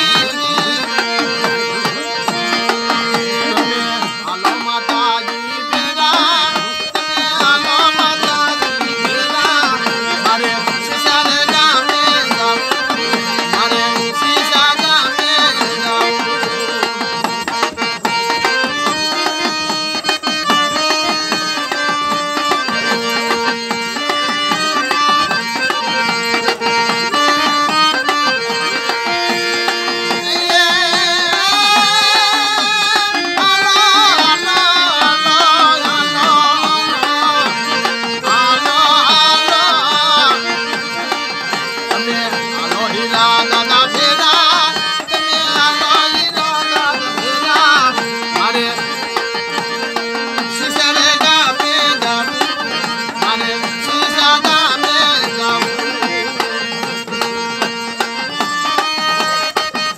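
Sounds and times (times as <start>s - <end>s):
man singing: 0.0s - 59.6s
hand drum beat: 0.0s - 59.9s
harmonium melody: 0.0s - 59.9s.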